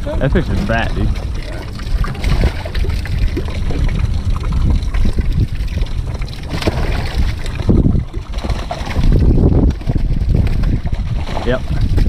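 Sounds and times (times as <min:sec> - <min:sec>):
wind buffeting microphone: 0:00.0 - 0:12.0
water pouring through mesh: 0:00.3 - 0:12.0.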